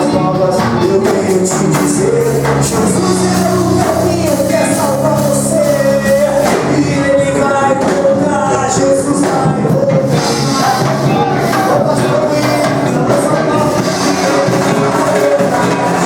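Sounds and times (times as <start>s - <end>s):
drums: 0.0s - 16.0s
gospel band music: 0.0s - 16.0s
person singing melody: 0.0s - 16.0s.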